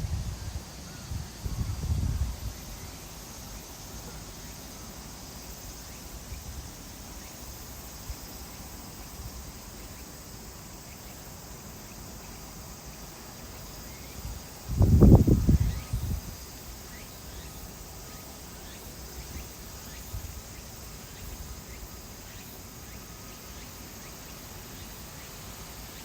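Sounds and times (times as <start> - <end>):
faint outdoor noise: 0.0 - 26.0
insects chirring: 0.0 - 26.0.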